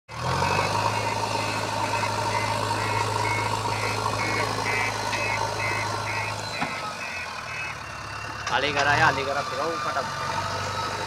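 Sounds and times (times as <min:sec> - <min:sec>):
diesel engine droning: 0:00.1 - 0:11.0
reversing alarm beeping: 0:00.3 - 0:11.0.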